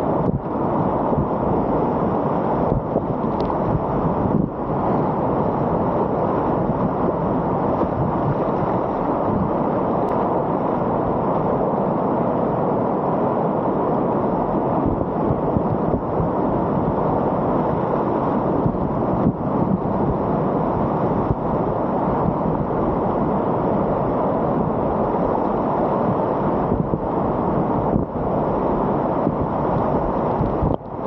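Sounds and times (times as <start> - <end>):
river whitewater rushing: 0.0 - 31.0.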